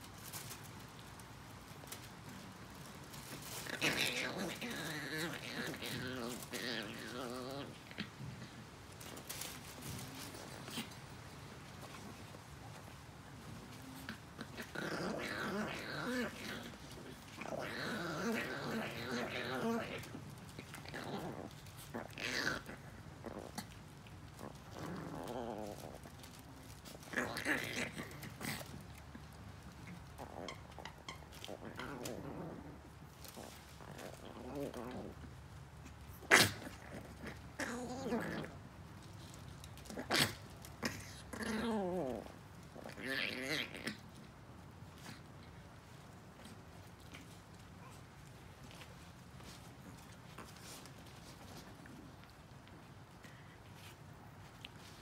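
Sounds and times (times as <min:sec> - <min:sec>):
small dog growling: 0:01.8 - 0:55.0.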